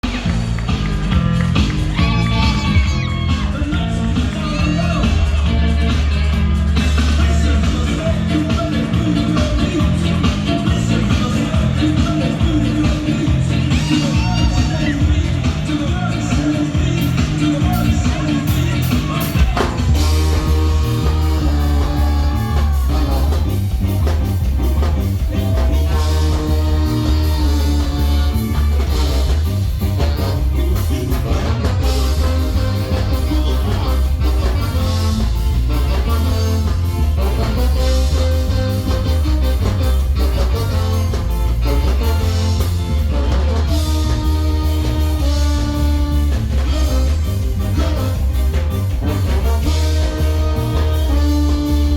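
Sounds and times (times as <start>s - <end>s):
ska band playing: 0.0s - 51.9s.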